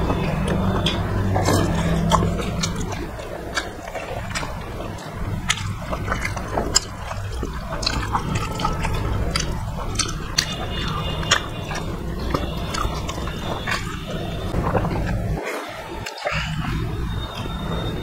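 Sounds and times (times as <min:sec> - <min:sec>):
fingers squelching rice: 0:00.0 - 0:15.4
low hum: 0:00.0 - 0:18.0
person chewing: 0:00.0 - 0:18.0.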